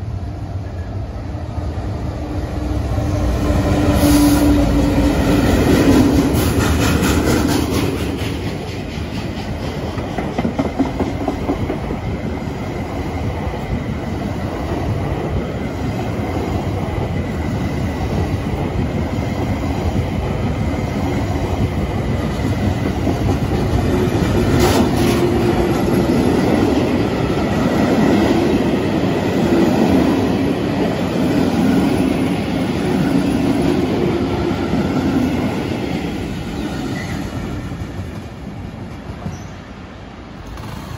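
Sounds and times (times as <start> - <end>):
diesel locomotive passing: 0.0 - 40.9.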